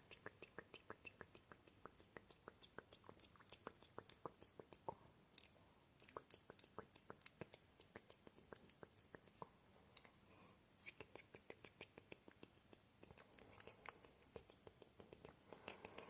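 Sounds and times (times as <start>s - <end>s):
moist mouth clicks and smacks: 0.0s - 10.2s, 10.8s - 16.0s.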